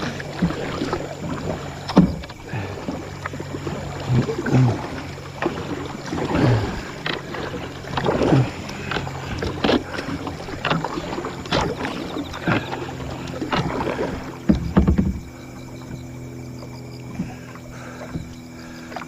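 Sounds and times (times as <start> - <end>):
paddle knocking against hull: 0.0 - 19.0
paddle splashes: 0.0 - 19.0
water sloshing: 0.0 - 19.0.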